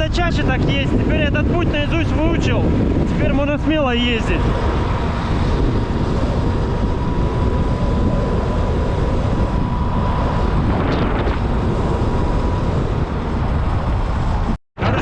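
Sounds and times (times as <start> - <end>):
wind buffeting microphone: 0.0 - 15.0
thin steady whine: 0.5 - 14.5.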